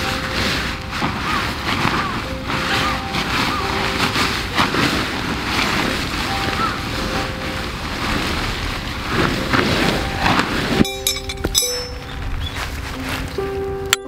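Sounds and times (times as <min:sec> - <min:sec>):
tent fabric rustling: 0:00.0 - 0:14.0
wind buffeting microphone: 0:00.0 - 0:14.0.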